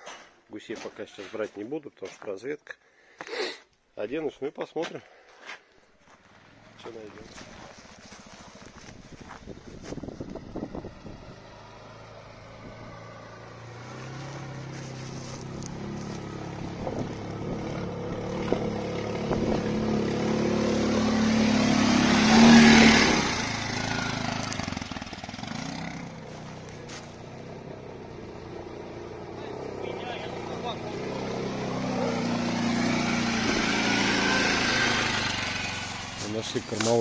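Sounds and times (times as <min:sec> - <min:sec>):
quad bike engine running: 0:06.5 - 0:37.0.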